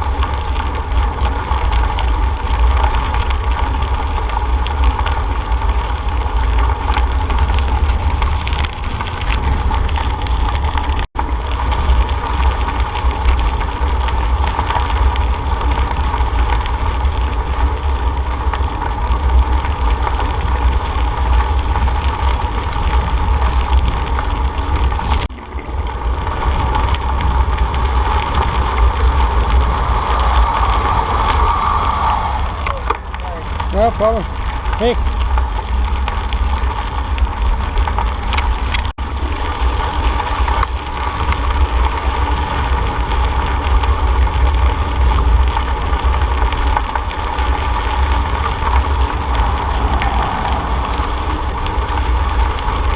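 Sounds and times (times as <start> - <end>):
bicycle tyre and road noise: 0.0 - 52.9
wind buffeting microphone: 0.0 - 52.9.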